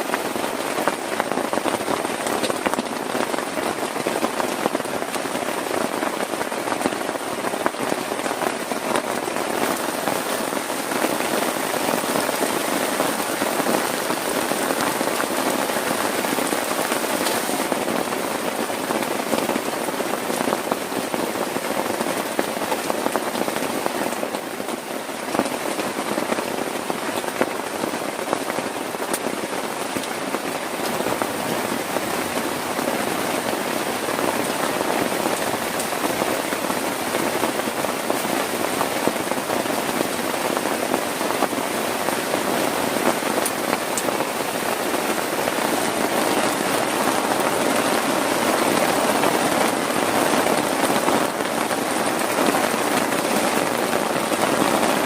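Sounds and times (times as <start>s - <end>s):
heavy rain on plastic tarp: 0.0s - 55.0s.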